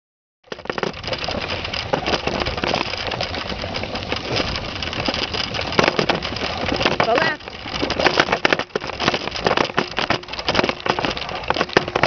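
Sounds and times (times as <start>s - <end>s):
bicycle rolling on dirt trail: 0.4s - 12.0s
tyres crackling on dry leaves: 0.8s - 12.0s.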